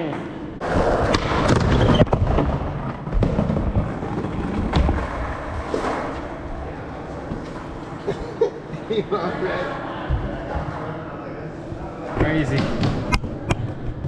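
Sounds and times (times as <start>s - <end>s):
skateboard wheels rolling: 0.6s - 14.0s.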